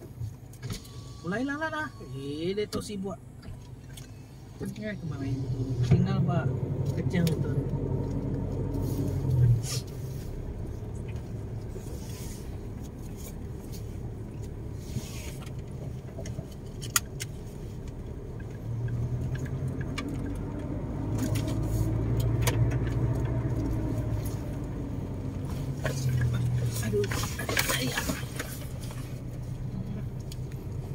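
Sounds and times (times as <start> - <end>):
car engine and tyres rumbling: 0.0 - 30.9.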